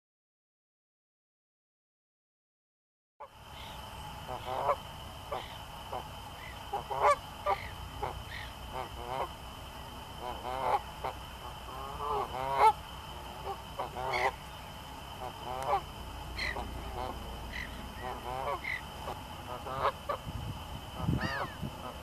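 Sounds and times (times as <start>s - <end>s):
geese honking: 3.3s - 20.3s, 20.9s - 22.0s.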